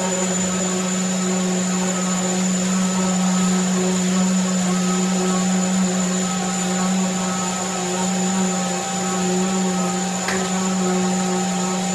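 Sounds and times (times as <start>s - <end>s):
electric sander humming and whining: 0.0s - 11.9s.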